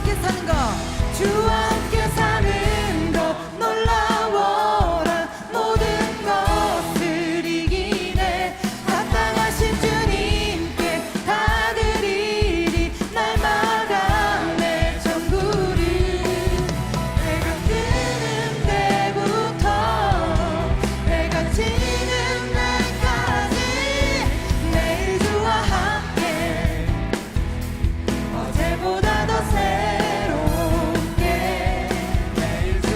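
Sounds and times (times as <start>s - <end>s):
voices singing: 0.0s - 27.4s, 28.2s - 32.9s
worship band playing: 0.0s - 32.9s.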